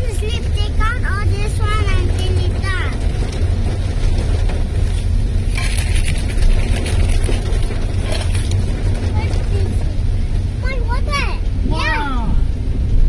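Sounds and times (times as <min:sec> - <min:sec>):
rain on car roof: 0:00.0 - 0:11.8
car rumbling on road: 0:00.0 - 0:13.0.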